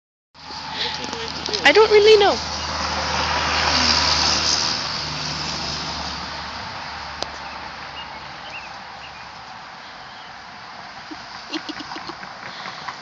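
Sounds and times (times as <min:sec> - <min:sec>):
vehicle passing by: 0:00.4 - 0:13.0.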